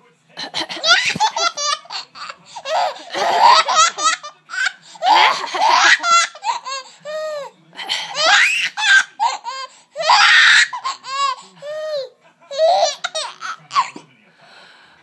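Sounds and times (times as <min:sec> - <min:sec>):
baby laughing: 0:00.4 - 0:14.0.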